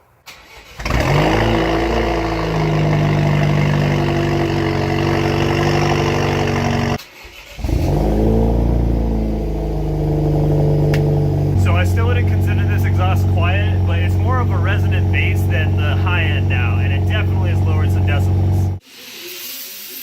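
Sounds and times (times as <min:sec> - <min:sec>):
car engine starting and idling: 0:00.2 - 0:18.8.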